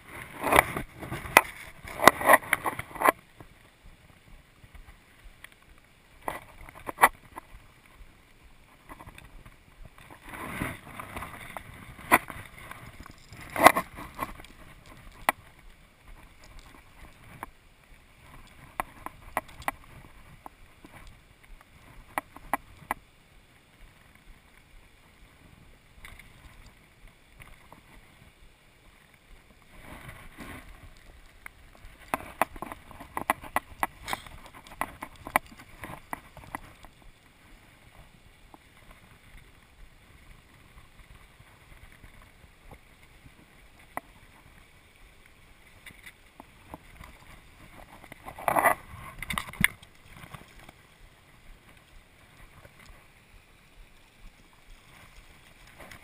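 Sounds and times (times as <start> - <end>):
river current: 0.0 - 56.0.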